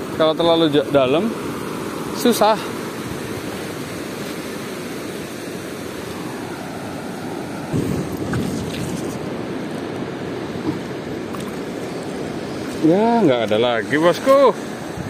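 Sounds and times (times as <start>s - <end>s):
surf washing over sandy beach: 0.0s - 15.0s.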